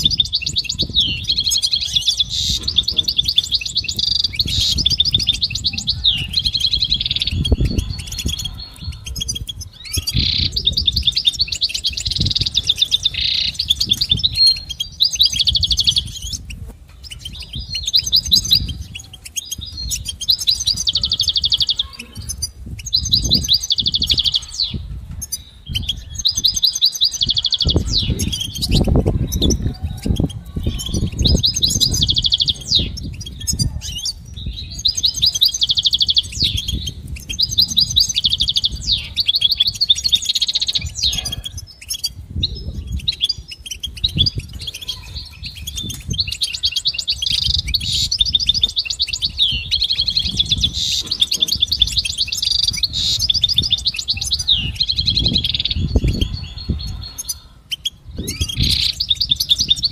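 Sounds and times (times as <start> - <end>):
bird twittering trills: 0.0 - 59.9.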